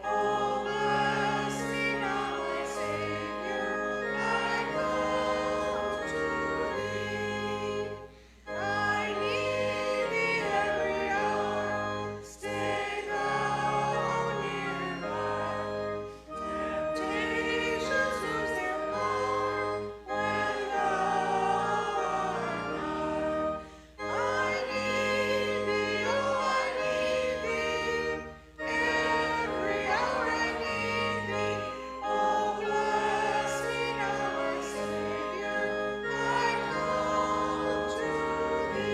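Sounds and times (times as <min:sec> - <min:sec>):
group singing a hymn: 0:00.0 - 0:38.9
sustained instrumental accompaniment: 0:00.0 - 0:38.9.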